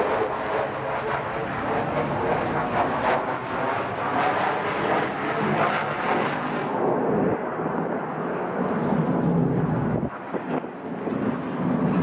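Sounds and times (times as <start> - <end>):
fighter jet crackling roar: 0.0 - 12.0.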